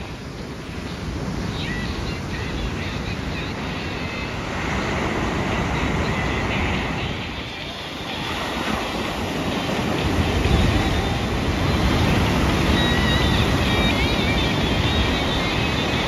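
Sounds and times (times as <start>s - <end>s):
waves breaking: 0.0s - 16.0s
wind rumbling on microphone: 0.0s - 16.0s.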